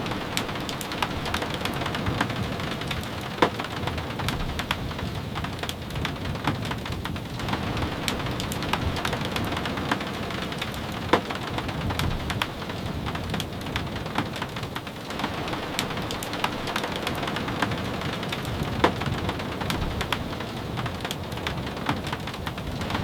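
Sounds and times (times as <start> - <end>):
steady rain hissing: 0.0 - 23.0.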